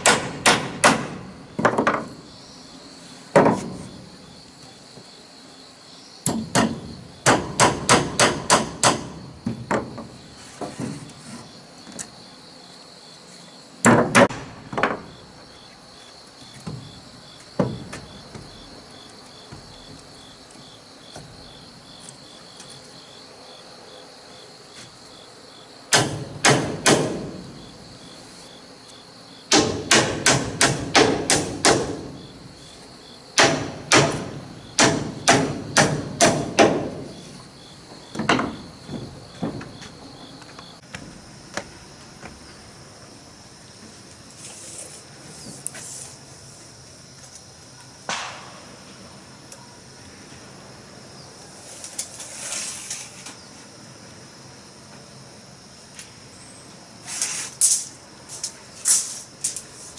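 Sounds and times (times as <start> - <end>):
insect chirring: 1.2 - 50.0.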